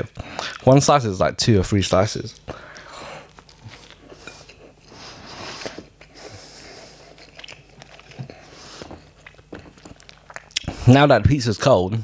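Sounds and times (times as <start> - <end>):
close chewing and mouth noises: 0.1 - 0.8, 2.2 - 11.8.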